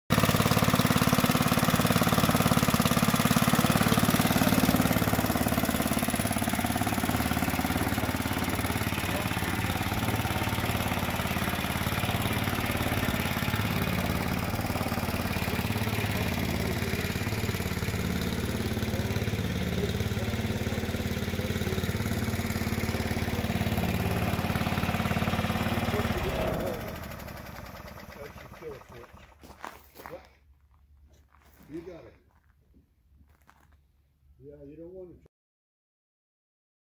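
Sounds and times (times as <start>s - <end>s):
small tractor engine running: 0.1s - 30.1s.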